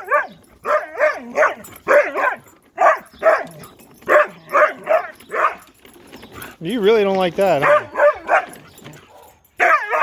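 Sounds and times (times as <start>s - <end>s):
dog barking: 0.0s - 5.6s, 7.6s - 10.0s.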